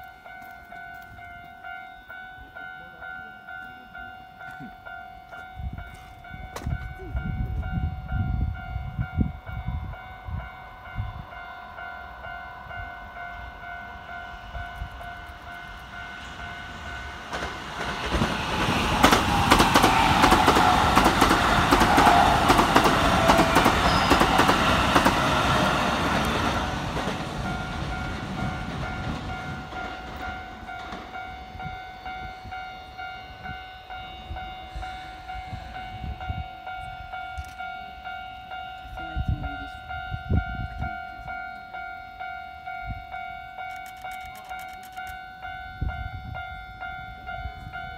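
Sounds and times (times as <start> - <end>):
electric train passing: 0.0 - 47.9
level crossing warning bell: 0.0 - 47.9.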